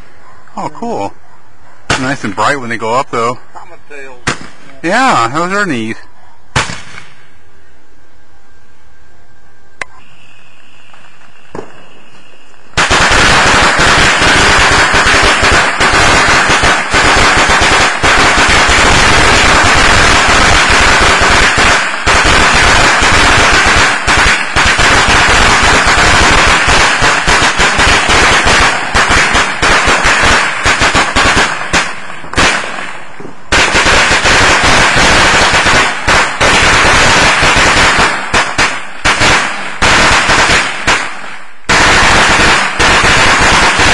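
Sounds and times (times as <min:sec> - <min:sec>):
firecrackers going off: 0:04.0 - 0:05.9, 0:06.6 - 0:07.4, 0:09.9 - 0:43.9.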